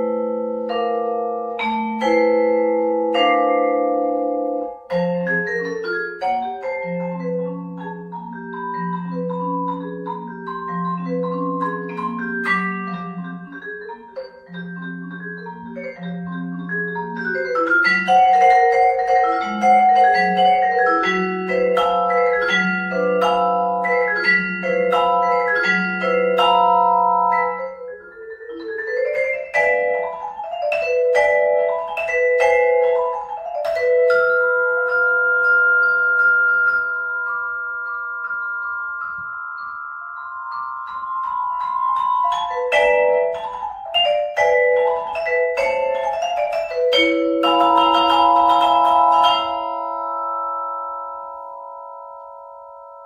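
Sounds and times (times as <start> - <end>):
vibraphone played with mallets: 0.0 - 53.0.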